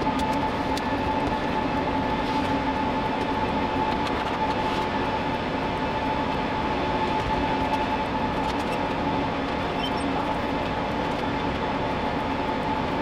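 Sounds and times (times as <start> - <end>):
high-pitched hum: 0.0 - 13.0
server cooling fans whirring: 0.0 - 13.0.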